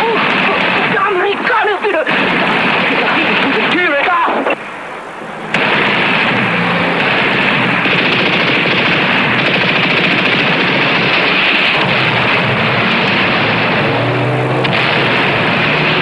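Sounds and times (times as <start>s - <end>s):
rapid machine-gun fire: 0.0s - 1.4s, 2.1s - 4.0s, 5.5s - 14.0s, 14.6s - 16.0s
vehicle engines running: 0.0s - 16.0s.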